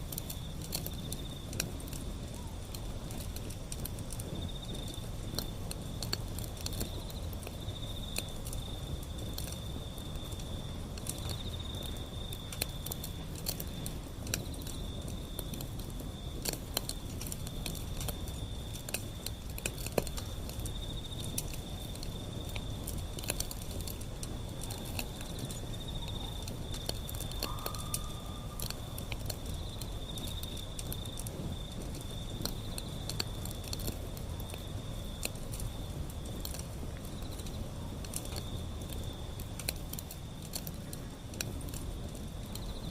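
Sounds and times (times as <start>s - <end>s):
wood fire crackling: 0.0s - 42.9s
insect trill: 4.3s - 42.9s.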